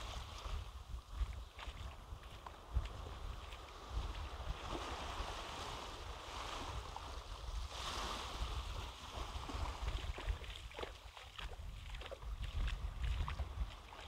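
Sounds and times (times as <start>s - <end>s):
low wind rumble on microphone: 0.0s - 14.0s
small waves washing onto sand: 0.0s - 14.0s.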